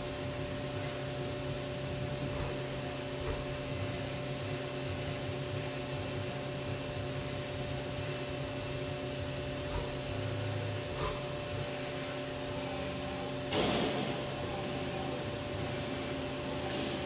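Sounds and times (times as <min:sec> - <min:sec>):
machining center humming: 0:00.0 - 0:17.0.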